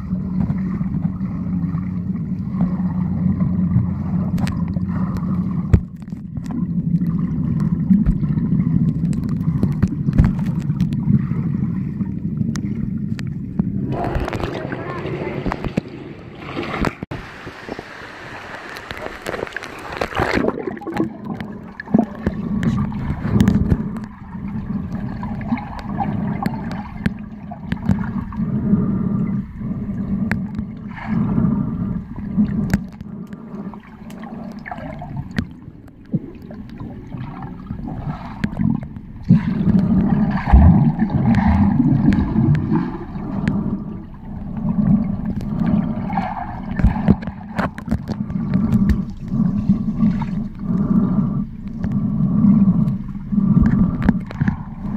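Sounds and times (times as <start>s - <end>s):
underwater water churning: 0.0s - 54.9s.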